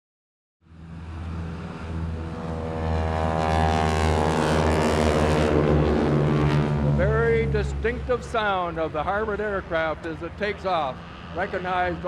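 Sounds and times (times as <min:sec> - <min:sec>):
propeller aircraft engine drone: 0:00.6 - 0:12.0.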